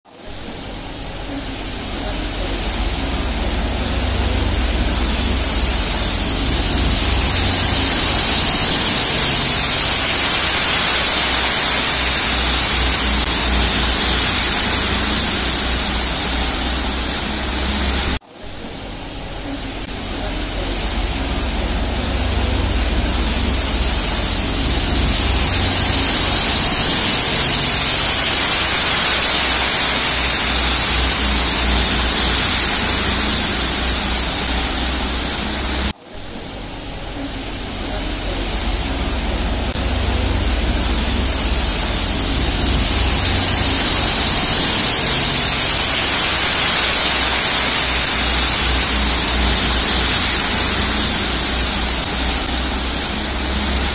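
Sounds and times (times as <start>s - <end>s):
high-pressure water jets hissing: 0.1s - 53.9s
locomotive and wheels rumbling: 0.1s - 53.9s.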